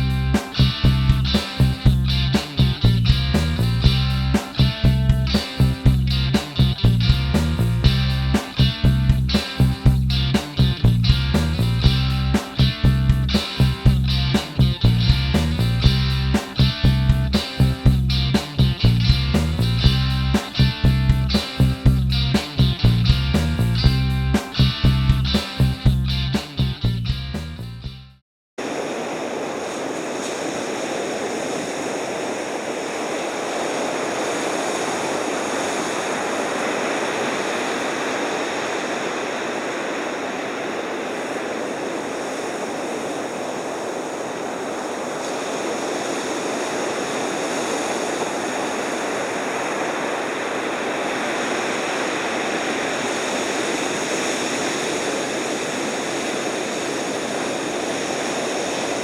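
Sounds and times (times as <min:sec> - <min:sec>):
ocean surf breaking: 0:00.0 - 0:26.6, 0:28.6 - 0:59.0.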